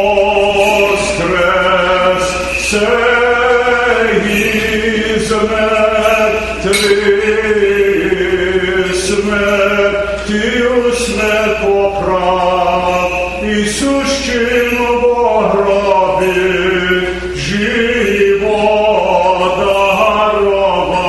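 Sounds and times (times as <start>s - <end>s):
men singing church chant: 0.0s - 21.0s.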